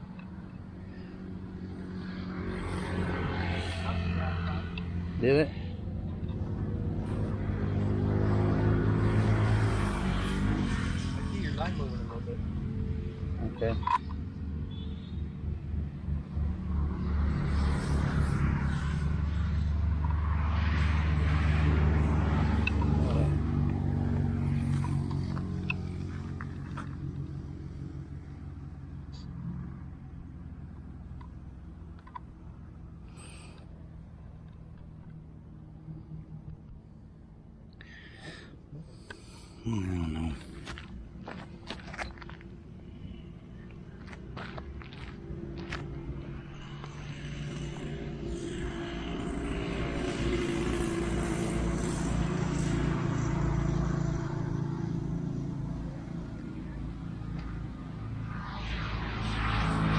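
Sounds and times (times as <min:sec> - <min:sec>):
engine droning past: 0:00.0 - 0:59.9.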